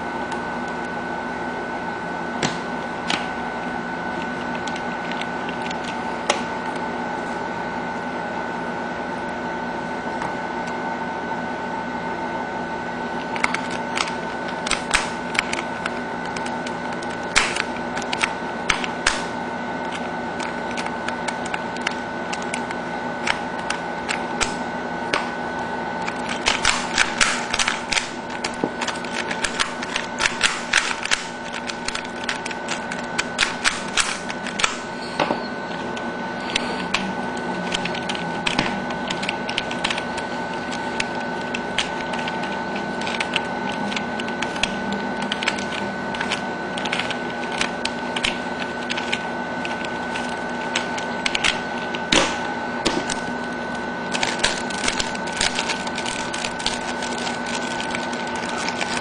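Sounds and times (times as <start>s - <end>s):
steady high hum: 0.0s - 59.0s.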